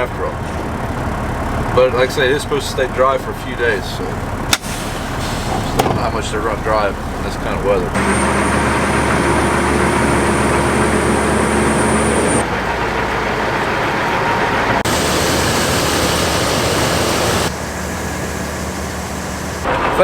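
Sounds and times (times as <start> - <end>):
heavy machinery engine rumbling: 0.0 - 20.0.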